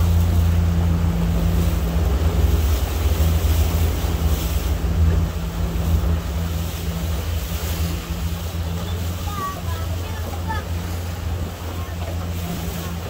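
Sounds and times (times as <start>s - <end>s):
boat motor running: 0.0s - 13.0s
water rushing past hull: 0.0s - 13.0s.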